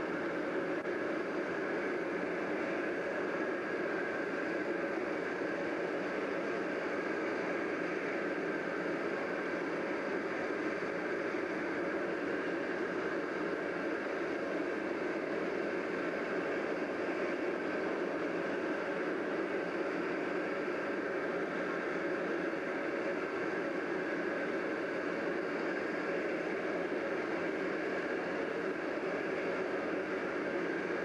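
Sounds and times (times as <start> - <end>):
faint high whine: 0.0 - 31.0.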